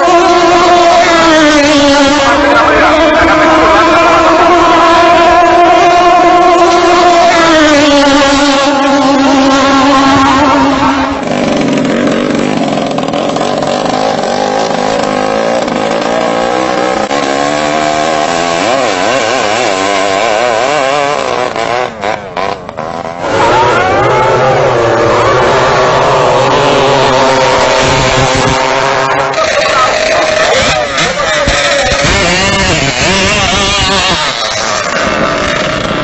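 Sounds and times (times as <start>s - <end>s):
racing boat engines high revs: 0.0s - 36.0s
wavering lower engine note: 0.0s - 36.0s.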